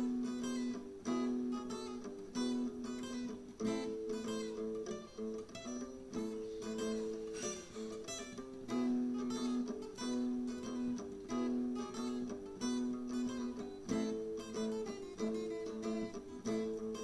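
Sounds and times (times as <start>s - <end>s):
guitar chords strummed: 0.0s - 17.0s.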